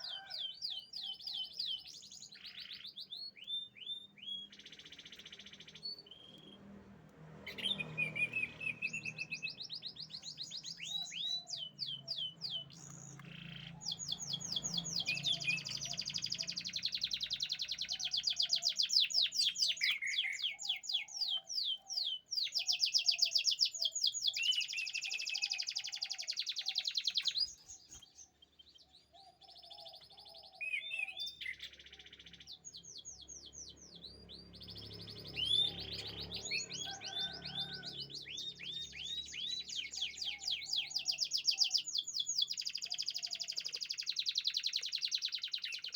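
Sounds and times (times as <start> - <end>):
canary singing trills: 0.0 - 6.8, 7.4 - 45.9.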